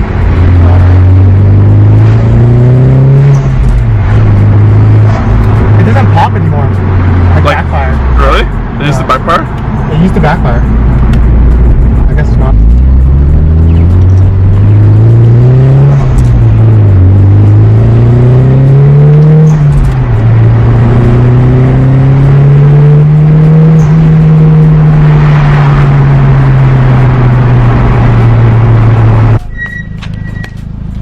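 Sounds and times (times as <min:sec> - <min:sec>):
car engine accelerating through gears: 0:00.0 - 0:31.0.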